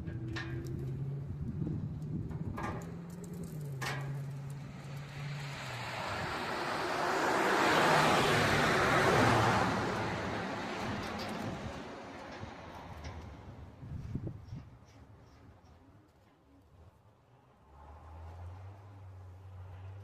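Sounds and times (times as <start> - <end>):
vehicle passing: 0.0 - 14.3, 17.2 - 20.0.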